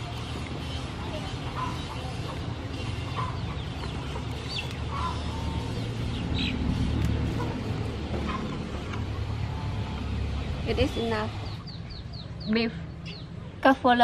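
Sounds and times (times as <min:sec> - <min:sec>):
chickens clucking: 0:00.0 - 0:13.6.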